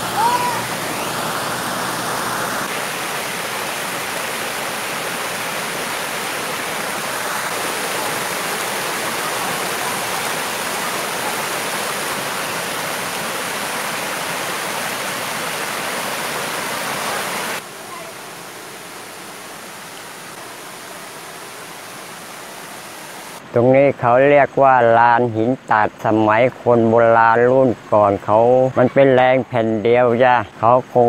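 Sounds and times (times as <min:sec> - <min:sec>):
small waterfall rushing: 0:00.0 - 0:31.0.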